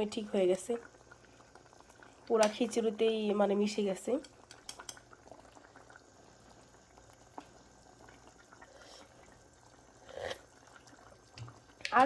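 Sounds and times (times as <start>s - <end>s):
pot bubbling faintly: 0.0s - 12.0s.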